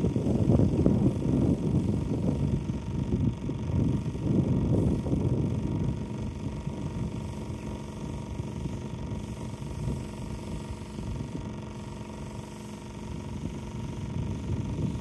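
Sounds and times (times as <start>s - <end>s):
electric pressure washer running: 0.0s - 15.0s.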